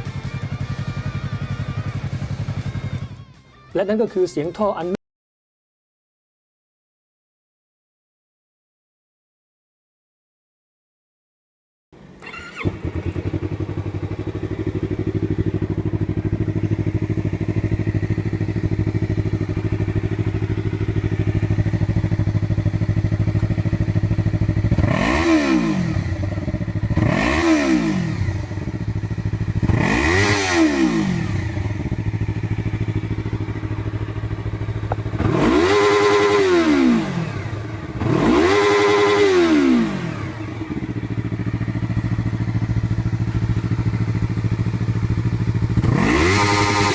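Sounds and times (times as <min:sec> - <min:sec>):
motorcycle engine idling and revving: 0:00.0 - 0:05.0, 0:12.0 - 0:46.9.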